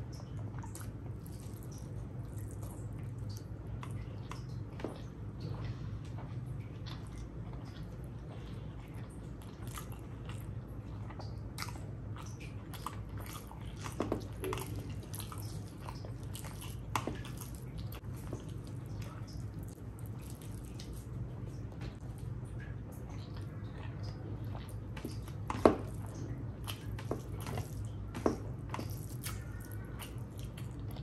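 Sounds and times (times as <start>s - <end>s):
person chewing with wet smacks: 0.0s - 31.0s
steady low hum: 0.0s - 31.0s.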